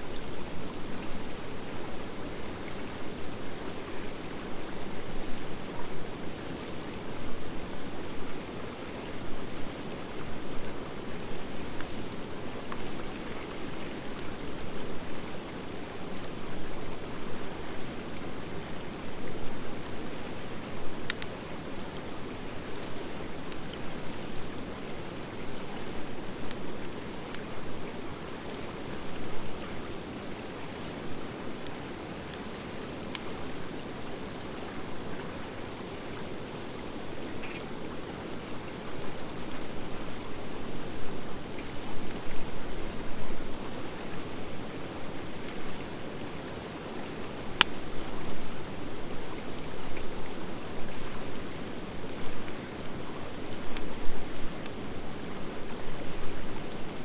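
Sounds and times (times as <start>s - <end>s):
wood fire crackling and hissing: 0.0s - 57.0s.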